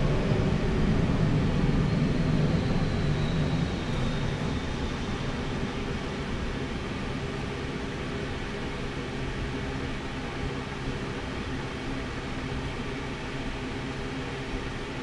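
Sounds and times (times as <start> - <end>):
machinery humming and hissing: 0.0 - 15.0.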